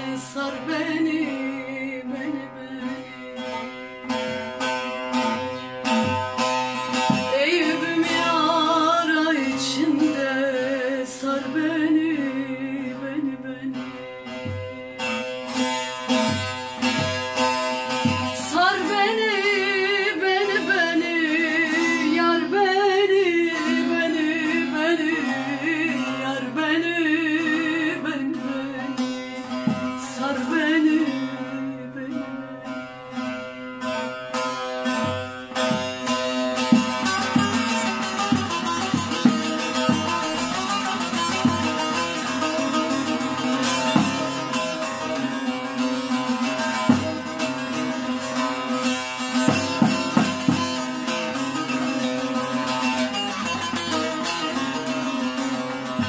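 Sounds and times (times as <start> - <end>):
long-necked lute strummed: 0.0 - 56.0
woman singing folk song: 0.0 - 56.0.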